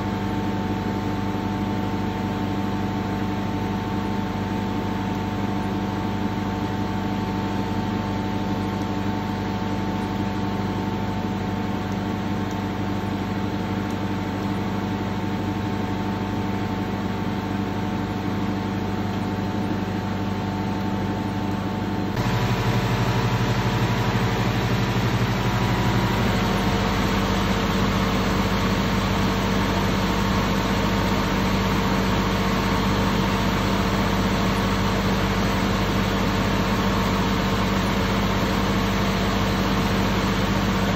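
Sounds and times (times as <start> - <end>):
machine droning: 0.0 - 40.9.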